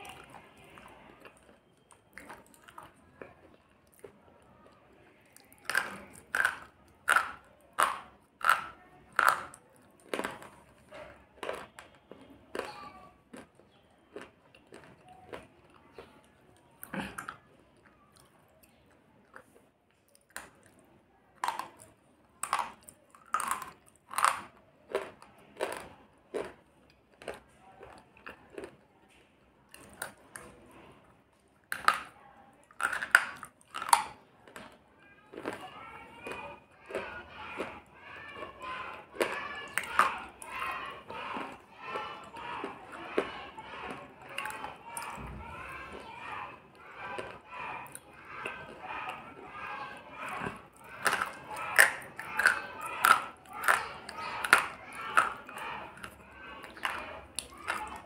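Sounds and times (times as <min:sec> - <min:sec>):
soft chewing: 0:00.0 - 0:58.0.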